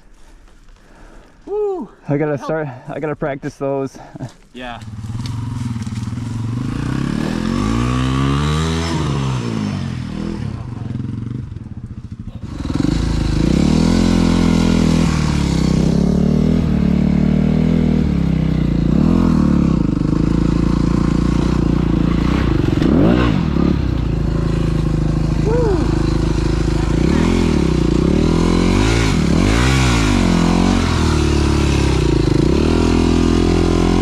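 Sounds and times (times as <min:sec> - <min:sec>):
dirt bike engine revving: 0:04.8 - 0:34.0.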